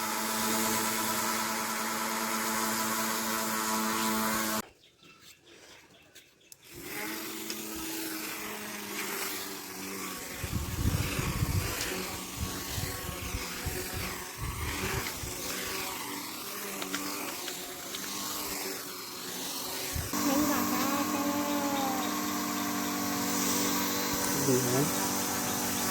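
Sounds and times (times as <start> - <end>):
electric motor whining: 0.0 - 4.6, 6.6 - 25.9.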